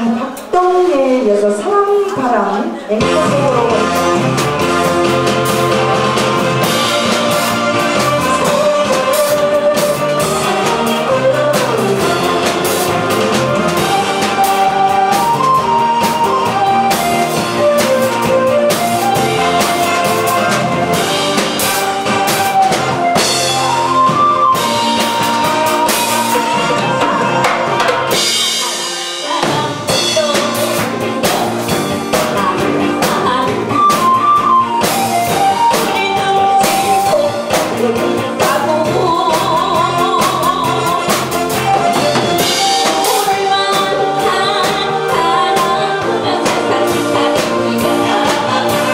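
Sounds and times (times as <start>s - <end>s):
backing track with drum kit: 0.0s - 48.9s
woman singing with vibrato: 0.0s - 48.9s.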